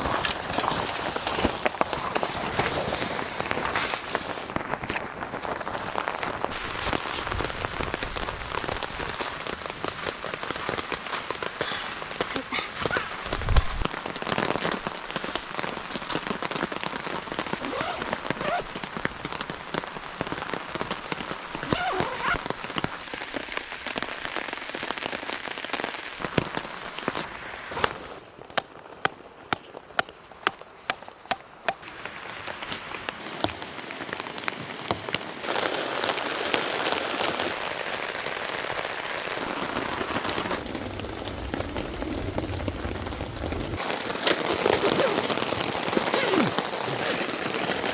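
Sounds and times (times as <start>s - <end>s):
heavy rain falling: 0.0s - 27.7s, 31.9s - 47.9s.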